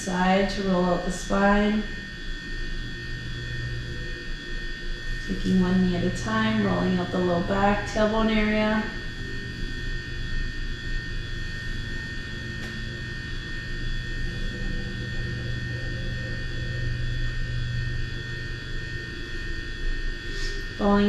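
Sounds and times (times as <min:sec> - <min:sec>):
faint steady tones: 0:00.0 - 0:21.0
low electrical hum: 0:00.0 - 0:21.0.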